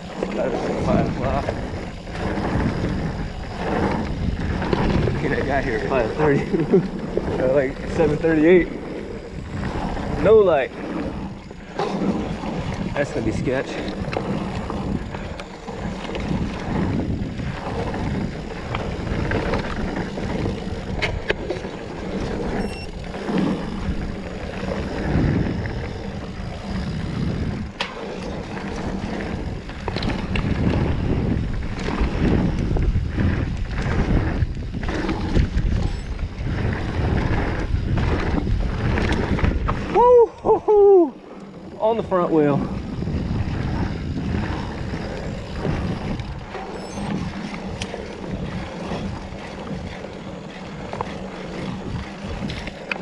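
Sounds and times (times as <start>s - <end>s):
bike rattling: 0.0s - 53.0s
tyres rumbling over dirt: 0.0s - 53.0s
wind buffeting microphone: 0.0s - 53.0s.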